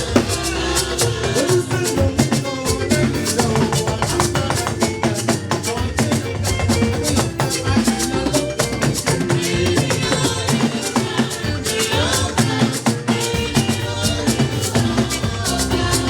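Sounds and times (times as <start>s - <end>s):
voices singing a hymn: 0.0s - 5.9s, 6.7s - 16.0s
drum kit and hand percussion: 0.0s - 16.0s
held instrumental notes: 0.0s - 16.0s.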